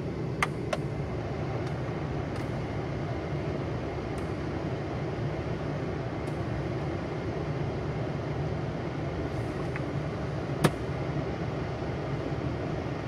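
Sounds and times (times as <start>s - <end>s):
car heater blower running: 0.0s - 13.0s.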